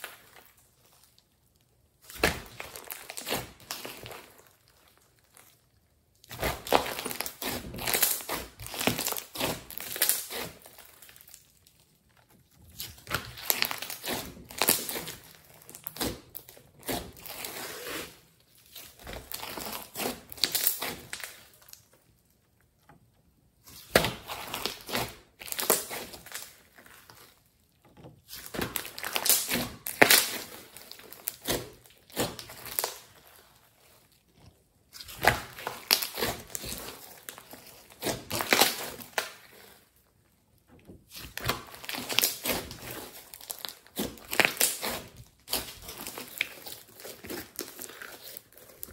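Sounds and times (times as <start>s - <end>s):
slime squishing and crackling: 0.0s - 48.9s.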